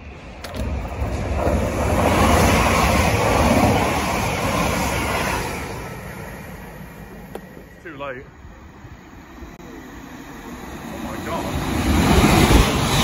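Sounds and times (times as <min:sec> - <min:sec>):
rushing air: 0:00.0 - 0:13.0
train wheels rumbling on rail: 0:00.0 - 0:13.0.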